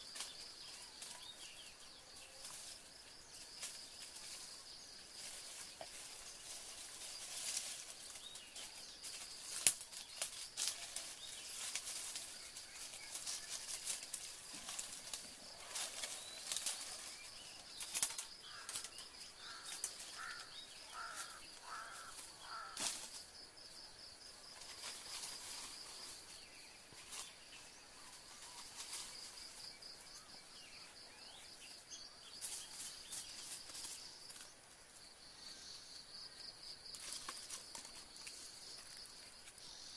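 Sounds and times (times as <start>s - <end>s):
high insect drone: 0.0s - 39.9s
leaves and twigs rustling and crackling: 0.0s - 39.9s.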